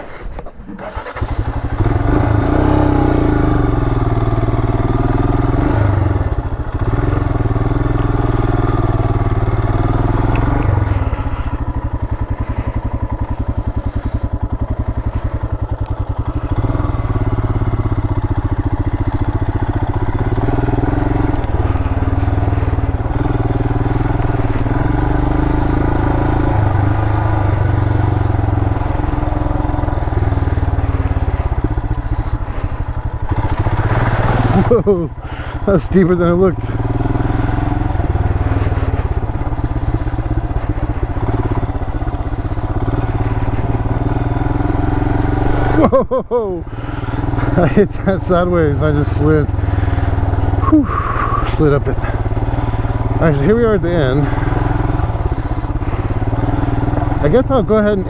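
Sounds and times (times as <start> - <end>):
motorcycle engine under load: 0.0 - 58.0.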